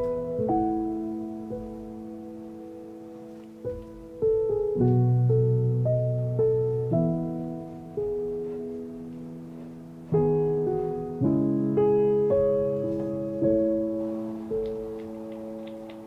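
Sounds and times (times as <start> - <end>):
soft solo piano chords: 0.0 - 16.0.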